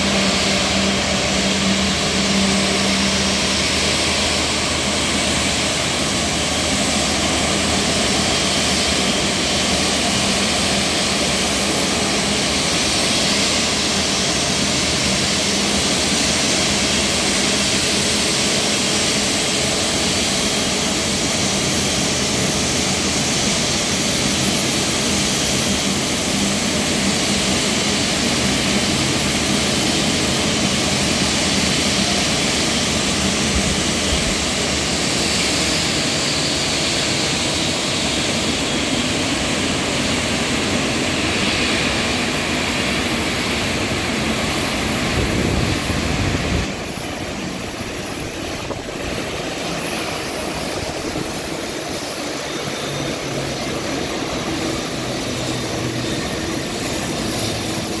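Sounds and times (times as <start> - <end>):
jet engine rushing: 0.0 - 58.0.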